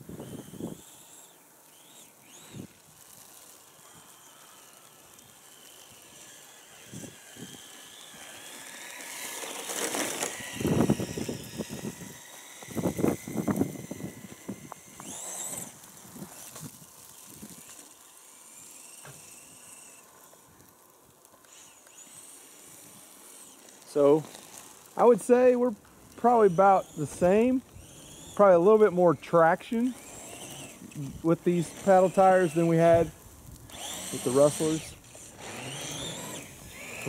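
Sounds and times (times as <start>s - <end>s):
electric motor whining: 0.0s - 37.0s.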